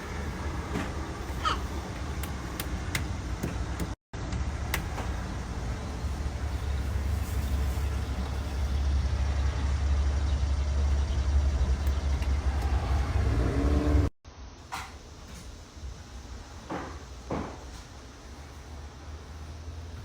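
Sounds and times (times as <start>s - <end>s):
road vehicle rumble: 0.0s - 20.0s.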